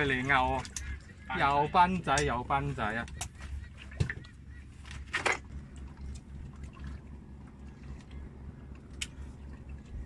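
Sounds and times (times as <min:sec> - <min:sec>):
boat engine pulsing rumble: 0:00.0 - 0:10.0.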